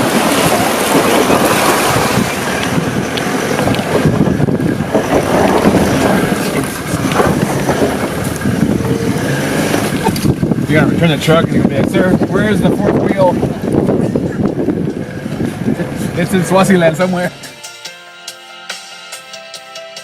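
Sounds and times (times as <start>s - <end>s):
water rushing and splashing: 0.0s - 17.5s.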